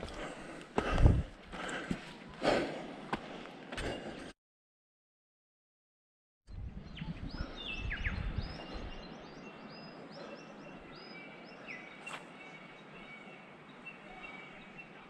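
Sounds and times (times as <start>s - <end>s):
birds chirping: 0.0s - 4.3s, 6.5s - 15.0s
outdoor ambience: 0.0s - 4.4s, 6.5s - 15.0s.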